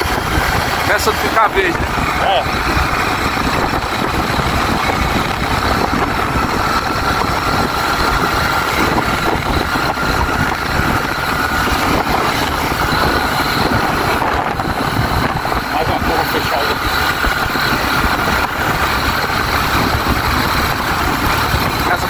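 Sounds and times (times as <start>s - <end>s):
constant high whine: 0.0s - 22.0s
motorcycle engine running: 0.0s - 22.0s
wind rumble on microphone: 0.0s - 22.0s.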